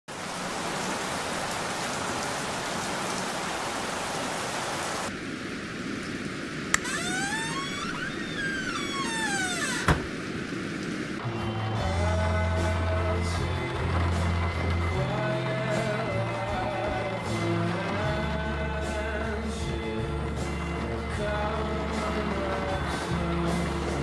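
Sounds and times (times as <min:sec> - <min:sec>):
heavy rain hissing: 0:00.1 - 0:24.0.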